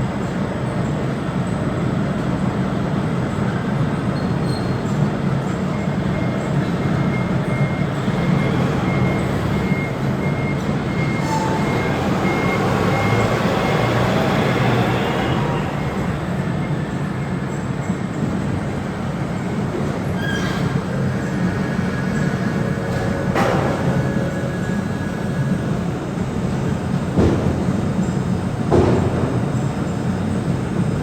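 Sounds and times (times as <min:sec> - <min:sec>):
machinery engine drone: 0:05.4 - 0:31.0.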